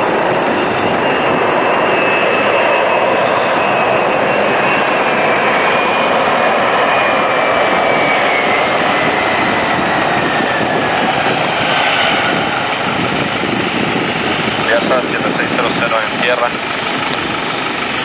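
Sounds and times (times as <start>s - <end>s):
jet engines spooling down: 0.0s - 18.0s.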